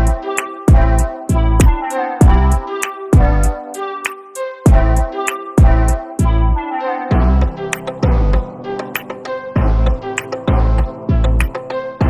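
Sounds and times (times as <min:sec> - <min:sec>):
background music with a beat: 0:00.0 - 0:12.0.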